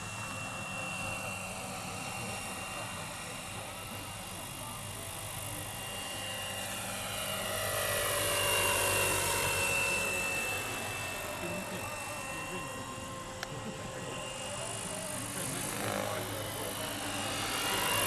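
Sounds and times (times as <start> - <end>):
model helicopter rotor whine: 0.0 - 18.0.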